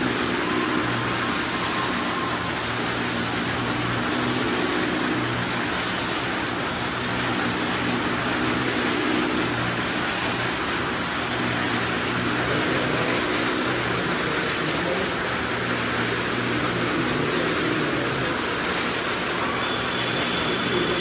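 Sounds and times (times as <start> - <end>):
small car engines running: 0.0 - 21.0.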